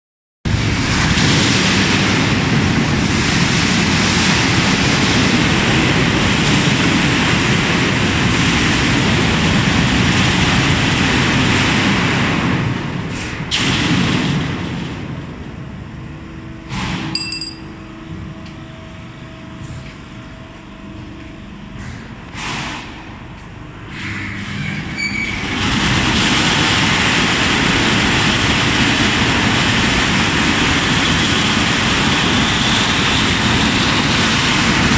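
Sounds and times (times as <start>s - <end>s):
factory machinery running: 0.5s - 34.9s.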